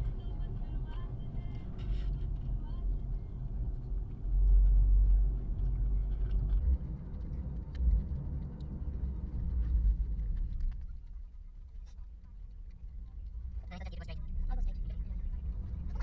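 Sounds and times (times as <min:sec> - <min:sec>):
car deep rumble: 0:00.0 - 0:16.0.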